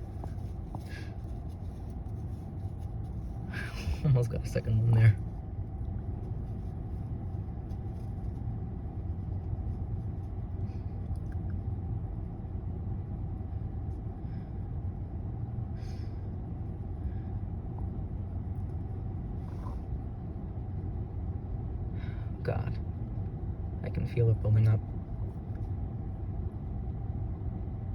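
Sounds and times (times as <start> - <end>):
low background rumble: 0.0 - 27.9.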